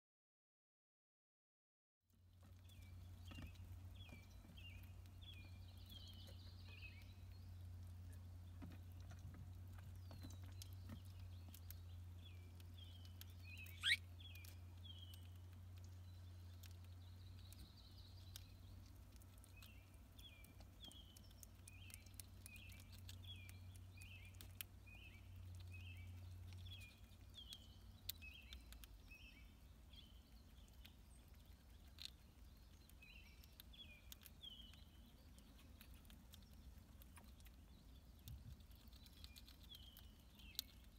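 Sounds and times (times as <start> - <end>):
small bird chirping: 2.1 - 40.9.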